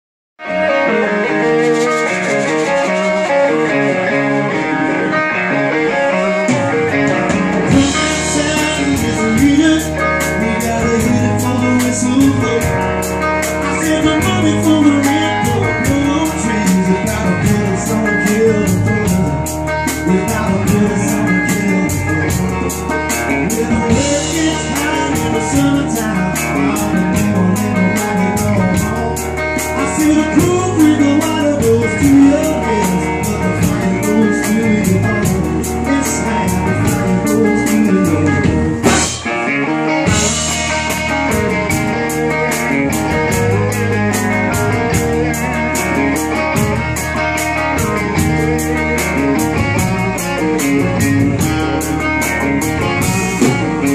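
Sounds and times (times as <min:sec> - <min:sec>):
amplified resonator guitar: 0:00.4 - 0:53.9
drum kit playing steady beat: 0:00.4 - 0:53.9.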